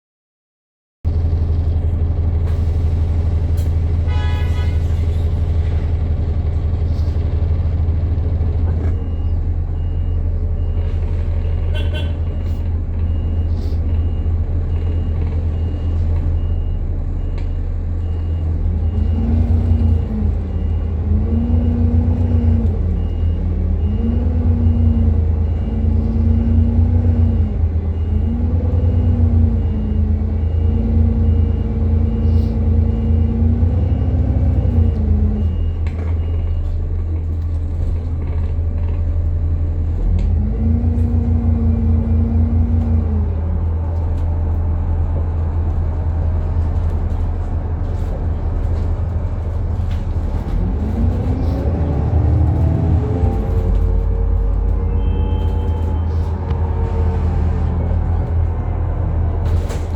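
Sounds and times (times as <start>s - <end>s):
bus axle whine: 1.1s - 59.9s
bus engine rumble: 1.1s - 59.9s.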